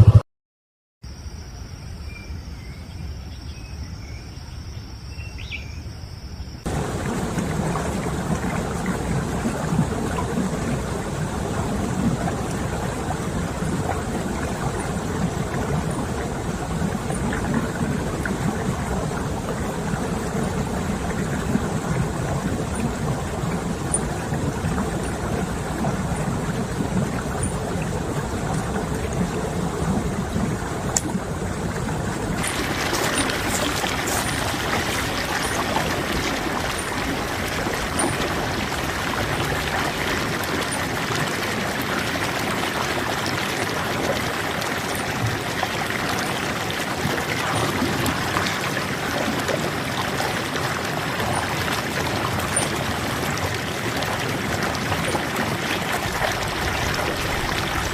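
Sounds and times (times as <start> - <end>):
heavy rain falling: 6.7 - 57.9.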